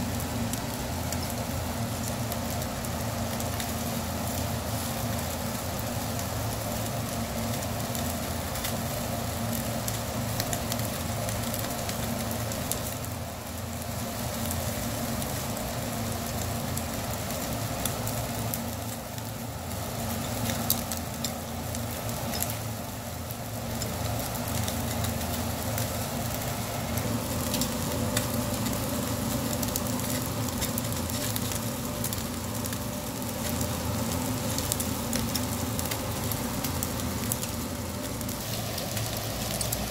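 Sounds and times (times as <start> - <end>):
fish sizzling over charcoal: 0.0 - 39.9
small crackles: 0.1 - 39.9.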